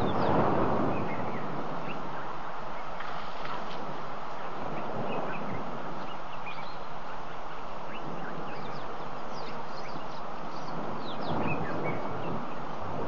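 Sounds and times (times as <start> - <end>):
steady rushing noise: 0.0 - 13.0
wild birds chirping: 0.0 - 13.0.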